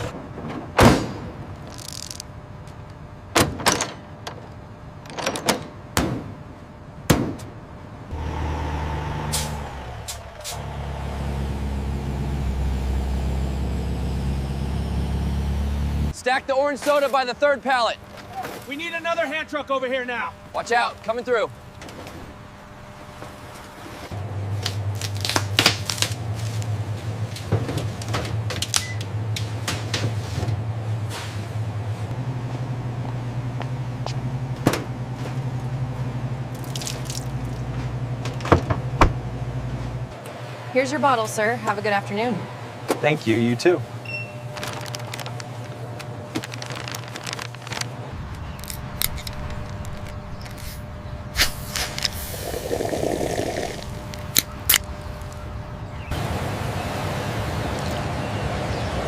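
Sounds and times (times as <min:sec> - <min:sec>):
steady low hum: 0:00.0 - 0:16.2, 0:17.2 - 0:59.0
heavy vehicle engine running: 0:05.8 - 0:16.2, 0:21.6 - 0:59.0.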